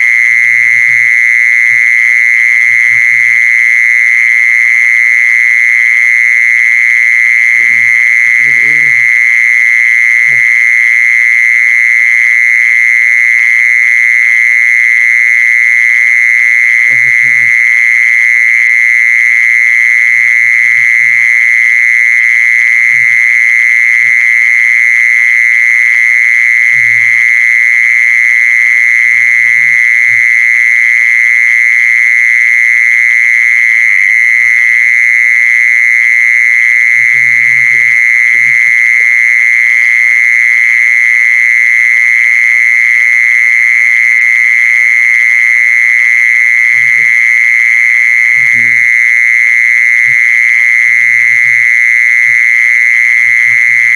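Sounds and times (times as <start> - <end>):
insect high-pitched trill: 0.0 - 13.7, 14.4 - 53.9.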